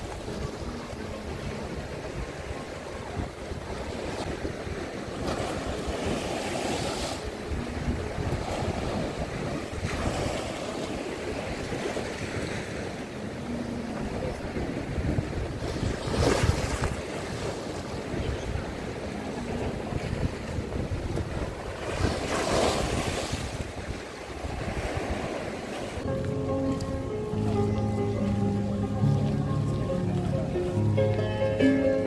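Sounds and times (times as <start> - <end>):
wind rumbling on microphone: 0.0 - 26.1
waves breaking: 0.0 - 32.0.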